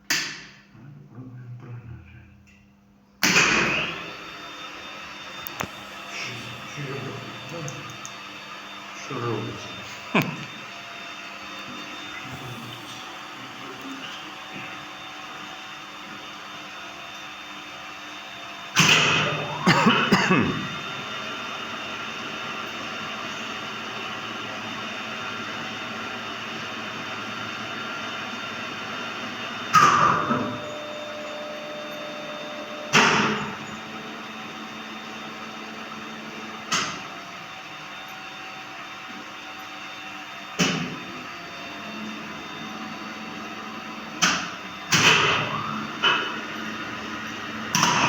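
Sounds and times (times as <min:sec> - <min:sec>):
steady machine hum: 0:00.8 - 0:48.0.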